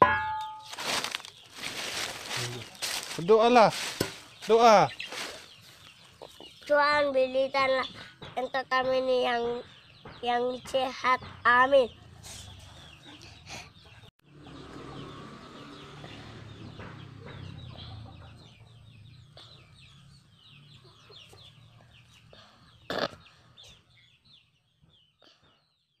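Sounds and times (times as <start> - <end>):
chickens chirping: 0.8 - 26.0.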